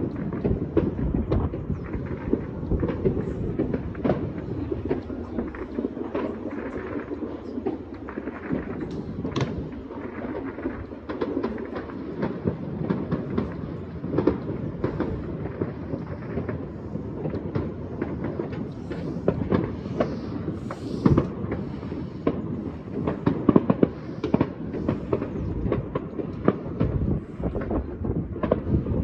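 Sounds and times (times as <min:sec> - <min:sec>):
distant fireworks and firecrackers: 0:00.0 - 0:29.0.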